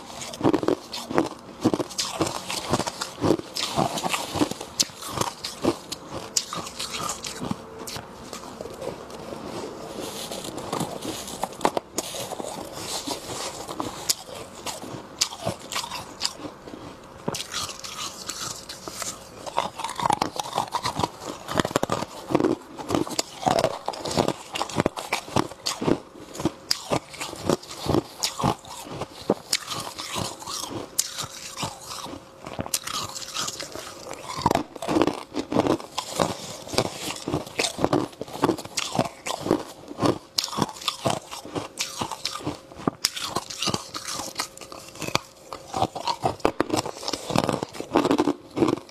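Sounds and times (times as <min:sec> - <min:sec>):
crunching frost between teeth: 0:00.0 - 0:48.9.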